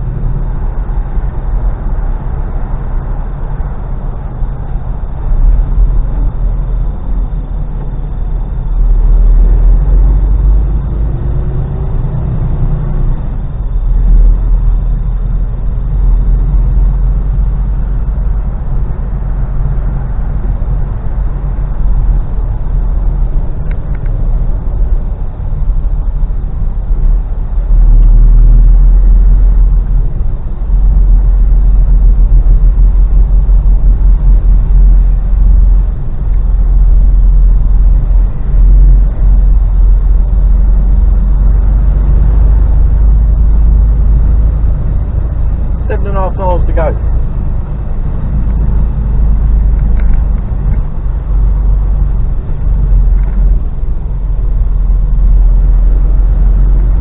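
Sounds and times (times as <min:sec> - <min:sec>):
truck engine and road rumble: 0:00.0 - 0:57.0.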